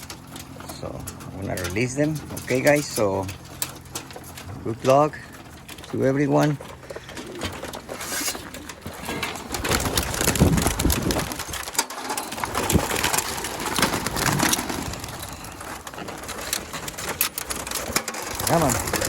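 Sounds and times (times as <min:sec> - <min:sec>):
pigeon wings flapping: 0:00.0 - 0:19.0.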